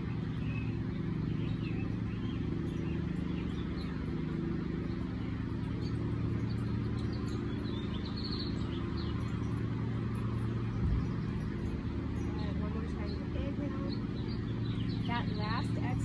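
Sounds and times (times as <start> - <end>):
bird chirps: 0.0 - 16.0
steady low hum: 0.0 - 16.0.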